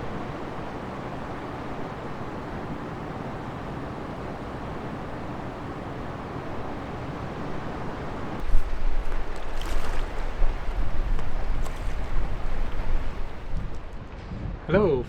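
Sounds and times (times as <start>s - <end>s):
water rushing around boat: 0.0s - 14.2s
wind buffeting microphone: 0.0s - 14.7s.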